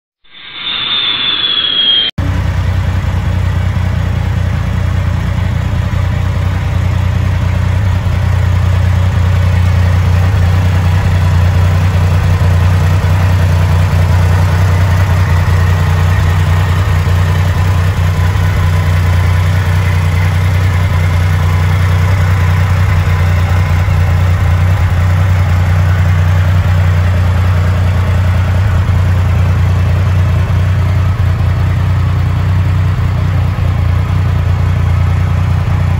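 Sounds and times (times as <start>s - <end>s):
motorcycle engine idling: 2.2s - 35.9s.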